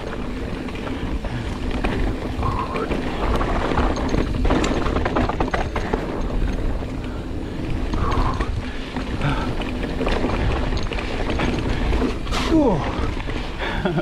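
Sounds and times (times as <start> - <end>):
mountain bike rattling over rocks: 0.0 - 14.0
wind rumble on microphone: 0.0 - 14.0.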